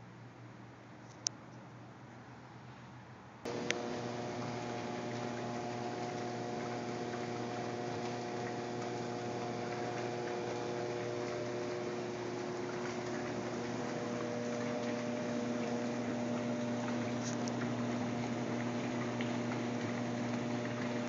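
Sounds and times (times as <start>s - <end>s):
hot tub pump humming: 3.4s - 21.0s
water rushing: 3.5s - 21.0s.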